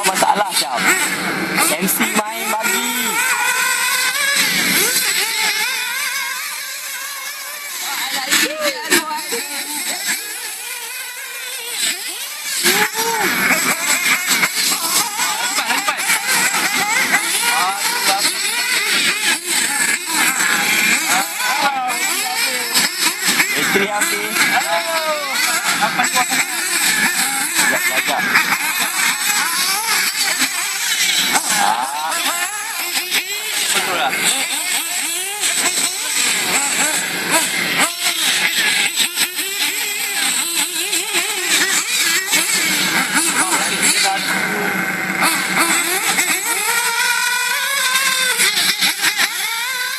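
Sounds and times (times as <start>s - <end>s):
electric motors whining: 0.0s - 49.9s.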